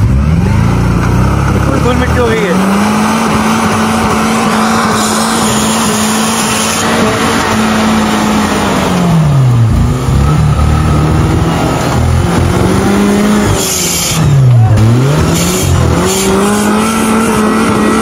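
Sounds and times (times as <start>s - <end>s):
engine at high revs: 0.0s - 18.0s.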